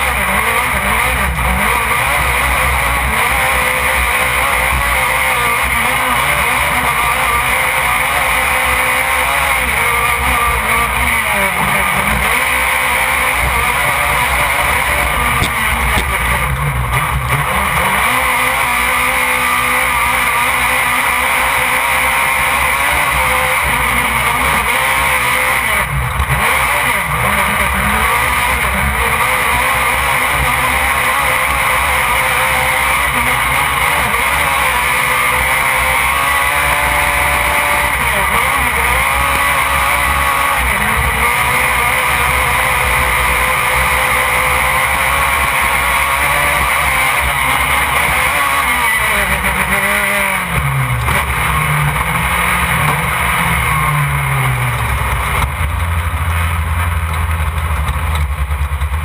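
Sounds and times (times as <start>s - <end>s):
race vehicle engine revving: 0.0s - 59.0s
road and wind noise: 0.0s - 59.0s.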